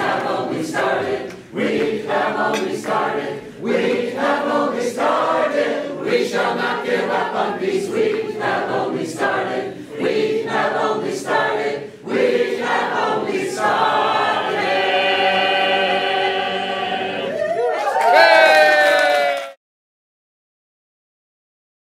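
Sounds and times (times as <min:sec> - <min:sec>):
choir singing: 0:00.0 - 0:17.7.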